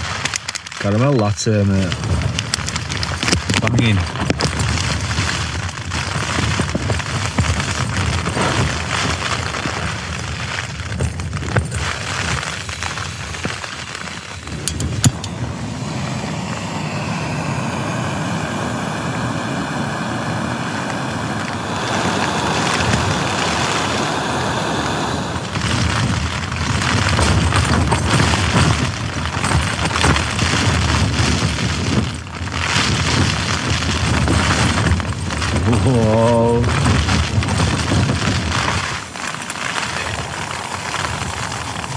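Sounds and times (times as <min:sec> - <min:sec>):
gas stove hissing: 0:00.0 - 0:41.9
wind buffeting a tent: 0:00.0 - 0:41.9.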